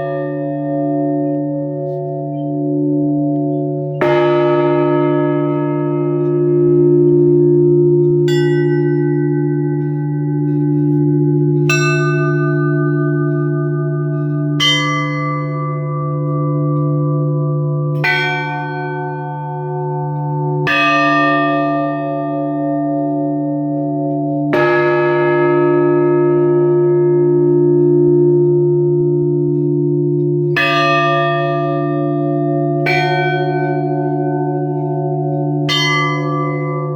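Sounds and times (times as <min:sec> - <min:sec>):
church bells tolling: 0:00.0 - 0:36.9
deep bell hum: 0:00.0 - 0:36.9.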